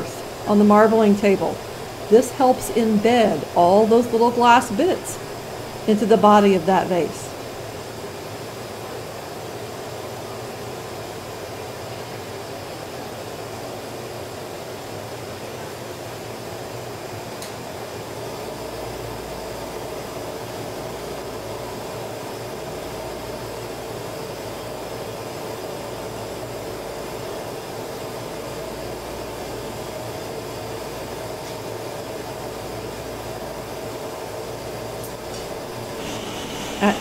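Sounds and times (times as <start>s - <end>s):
gas furnaces roaring: 0.0s - 37.0s
ventilation fans running: 0.0s - 37.0s.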